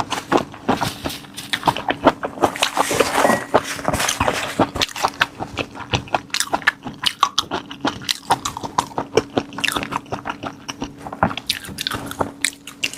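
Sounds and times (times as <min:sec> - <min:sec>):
person chewing prawns: 0:00.0 - 0:12.9.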